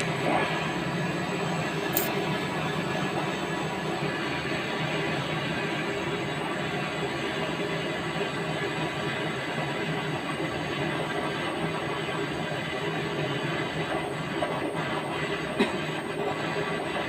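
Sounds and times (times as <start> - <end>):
machine noise with hiss: 0.0 - 17.0.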